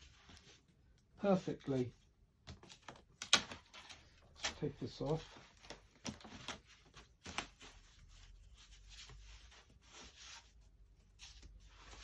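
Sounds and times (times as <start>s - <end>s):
cardboard rustling: 0.0s - 12.0s.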